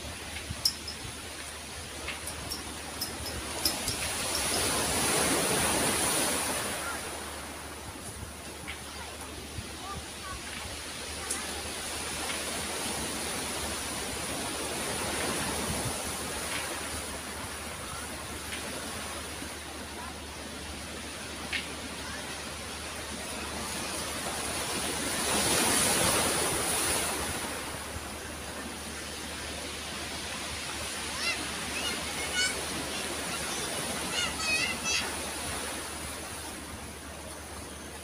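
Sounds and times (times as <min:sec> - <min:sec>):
waves washing onto pebble beach: 0:00.0 - 0:38.0.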